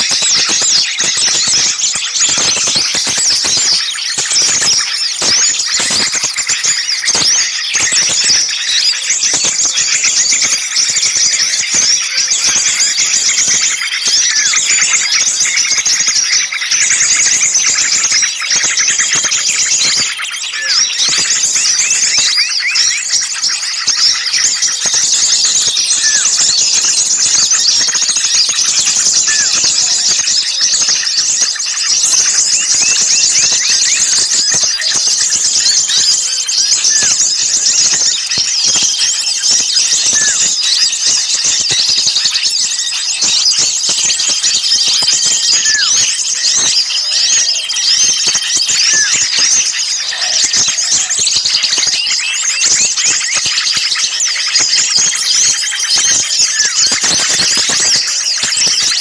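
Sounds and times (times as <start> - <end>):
songbirds chirping and chattering: 0.0 - 59.0.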